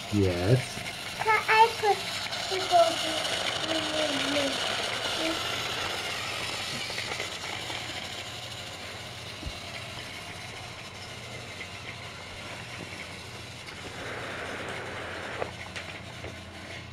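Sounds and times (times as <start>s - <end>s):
toy train engines whirring: 0.0s - 16.9s.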